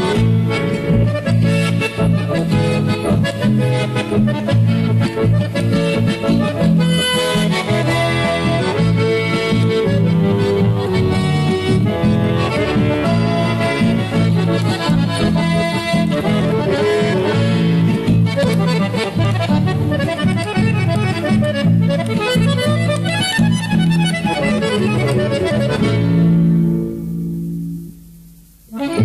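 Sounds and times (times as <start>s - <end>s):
accordion playing fast melody: 0.0s - 27.4s, 28.7s - 29.0s
guitar accompaniment: 0.0s - 29.0s.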